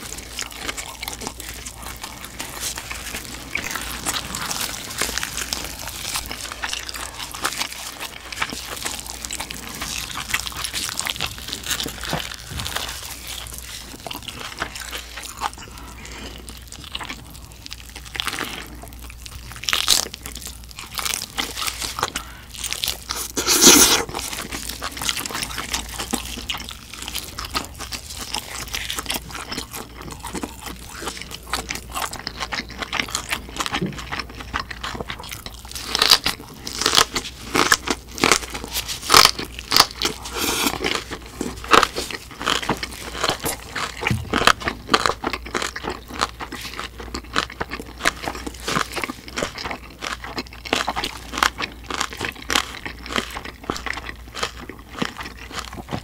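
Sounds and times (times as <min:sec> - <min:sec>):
crunching and chewing: 0:00.0 - 0:56.0.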